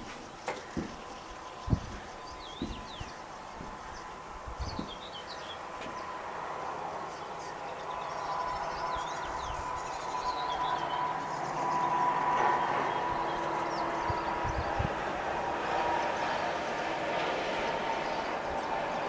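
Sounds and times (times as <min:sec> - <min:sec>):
small birds chirping: 0:00.0 - 0:16.8
distant engine hum: 0:00.0 - 0:19.0.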